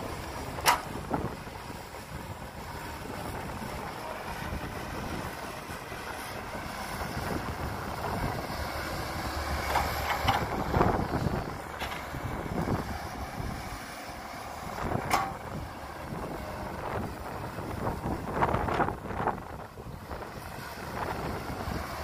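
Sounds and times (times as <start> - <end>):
excavator diesel engine: 0.0 - 22.0
wind buffeting microphone: 0.0 - 22.0.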